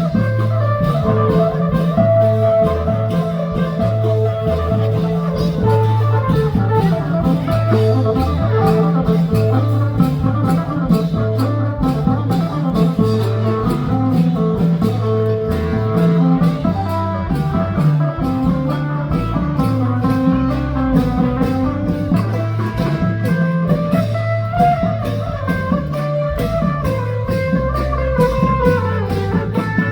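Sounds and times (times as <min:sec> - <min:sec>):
drum and cymbal beat: 0:00.0 - 0:29.9
festive band music: 0:00.0 - 0:29.9.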